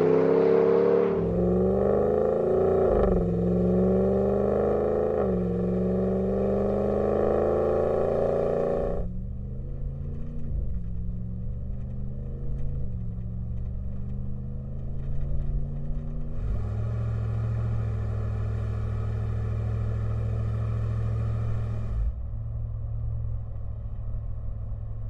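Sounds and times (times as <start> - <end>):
car exhaust idling and revving: 0.0 - 25.0.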